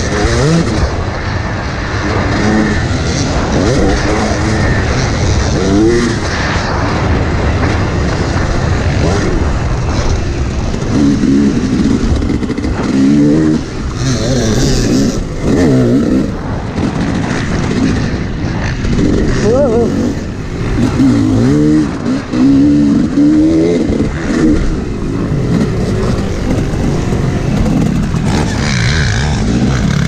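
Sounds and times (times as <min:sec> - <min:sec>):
dirt bike engine revving: 0:00.0 - 0:30.0
wind noise on microphone: 0:00.0 - 0:30.0.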